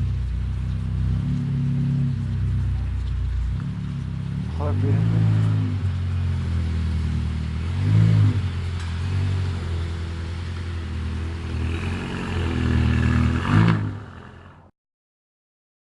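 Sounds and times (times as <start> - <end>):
vehicle engine running: 0.0 - 14.6.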